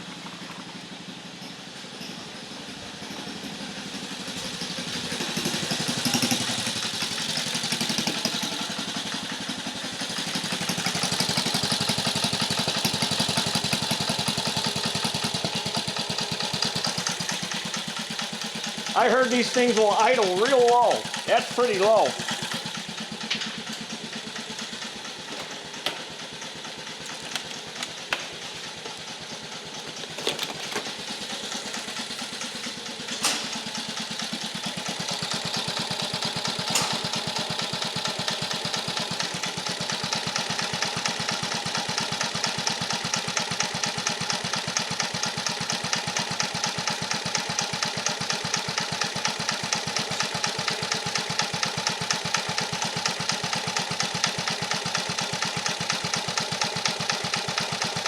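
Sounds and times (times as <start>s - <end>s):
engine idling low: 0.0s - 58.0s.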